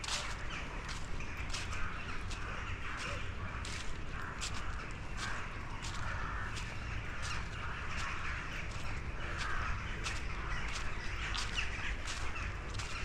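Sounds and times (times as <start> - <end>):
crows cawing: 0.0 - 13.0
footsteps on dry leaves: 0.0 - 13.0.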